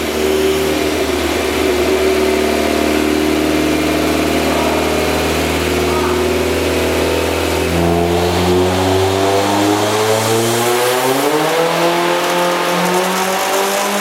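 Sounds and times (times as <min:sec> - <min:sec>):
car engine revving under load: 0:00.0 - 0:14.0.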